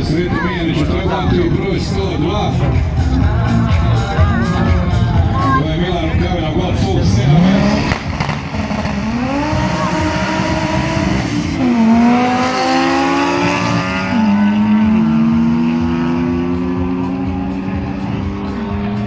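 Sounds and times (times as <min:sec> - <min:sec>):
race cars accelerating: 0:00.0 - 0:19.0.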